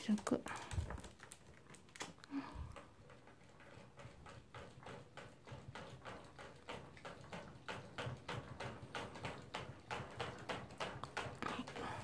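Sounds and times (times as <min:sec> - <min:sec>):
dog licking metal water spout: 0:00.0 - 0:12.0.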